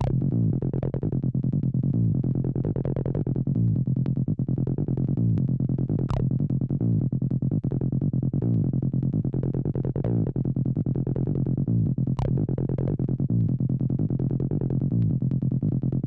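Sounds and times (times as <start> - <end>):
steady low bass: 0.0 - 16.0.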